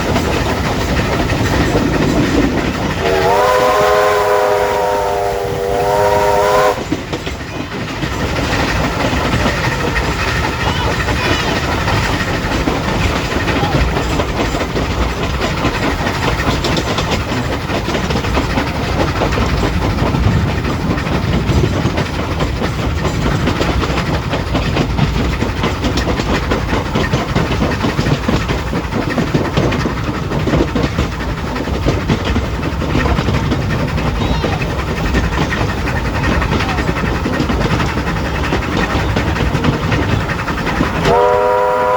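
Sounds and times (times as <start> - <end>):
train rumble: 0.0 - 41.9
wheels clattering over rails: 0.0 - 41.9.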